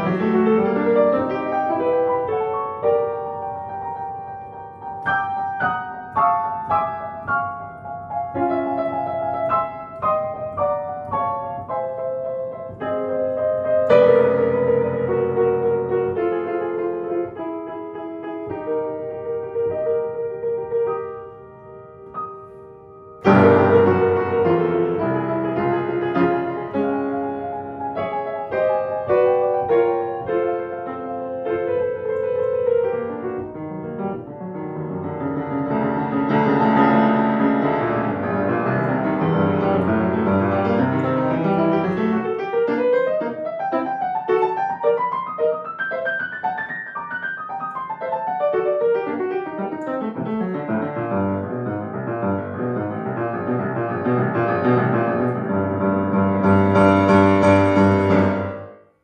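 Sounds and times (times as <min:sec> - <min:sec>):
grand piano solo: 0:00.0 - 0:59.0.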